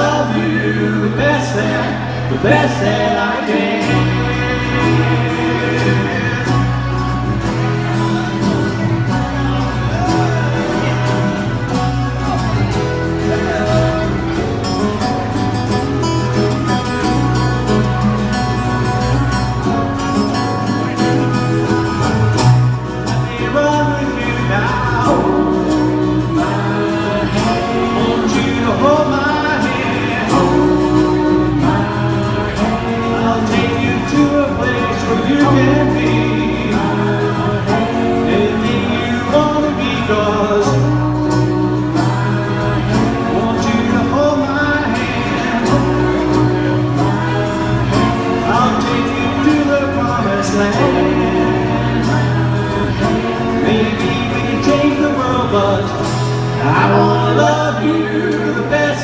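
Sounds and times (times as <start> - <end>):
acoustic guitar: 0.0 - 59.0
electric keyboard: 0.0 - 59.0
person singing: 0.0 - 59.0.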